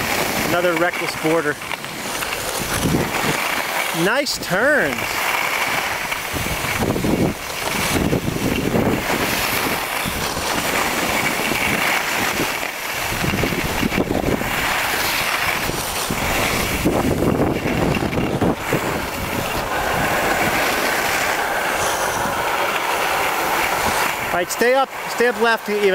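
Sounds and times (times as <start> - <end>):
skis scraping over snow: 0.0 - 25.9
wind rushing over microphone: 0.0 - 25.9.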